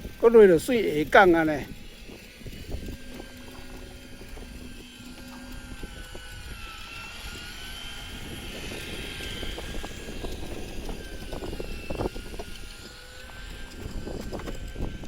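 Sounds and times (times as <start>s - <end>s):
low hum: 0.0s - 15.0s
motor running with high whine: 0.0s - 15.0s.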